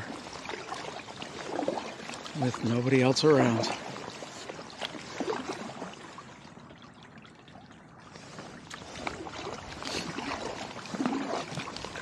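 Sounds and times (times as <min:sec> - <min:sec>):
kayak paddle strokes in water: 0:00.0 - 0:12.0
water splashing and trickling: 0:00.0 - 0:12.0.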